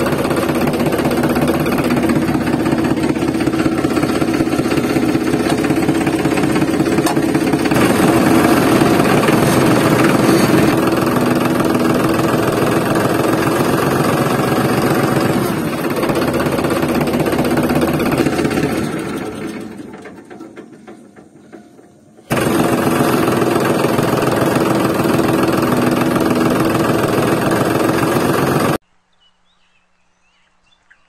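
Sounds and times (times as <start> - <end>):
engine chugging: 0.0 - 28.8.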